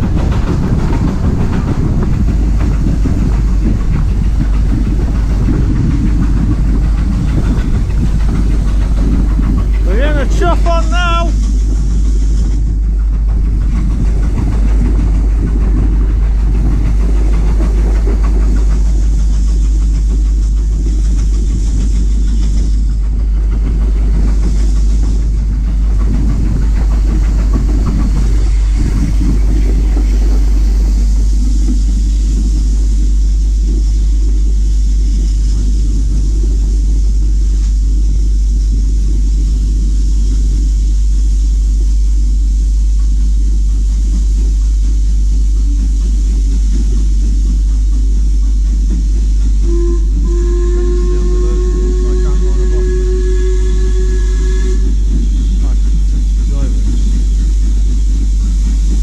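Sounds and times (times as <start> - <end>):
train rumbling from on board: 0.0 - 59.0.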